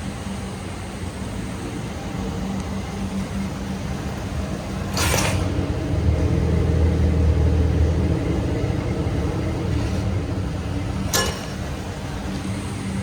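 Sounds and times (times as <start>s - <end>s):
truck engine running: 1.9s - 13.0s.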